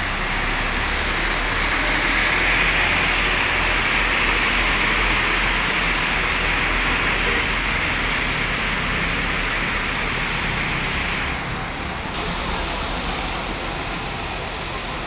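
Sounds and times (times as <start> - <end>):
bus engine running low: 0.0 - 15.0
loud steady hiss: 0.0 - 15.0.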